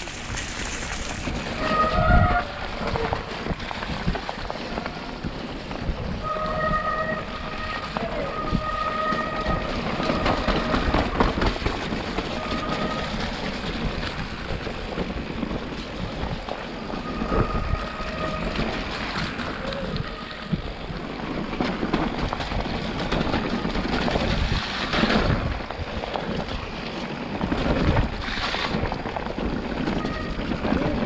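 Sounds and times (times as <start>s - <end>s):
bike tyres rumbling and rattling: 0.0s - 31.0s.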